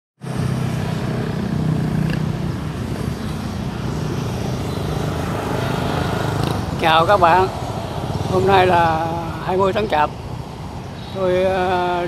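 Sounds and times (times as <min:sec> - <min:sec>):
road traffic hum: 0:00.2 - 0:12.0.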